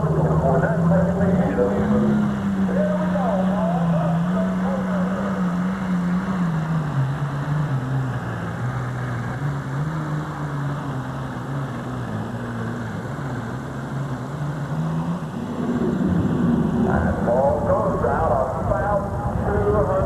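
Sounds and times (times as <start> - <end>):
diesel tractor engine under load: 0.0 - 20.0.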